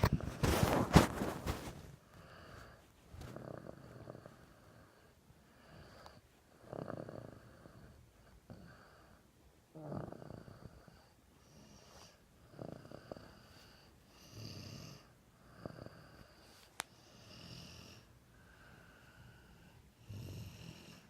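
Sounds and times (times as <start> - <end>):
person snoring: 3.3 - 5.0, 5.6 - 21.0.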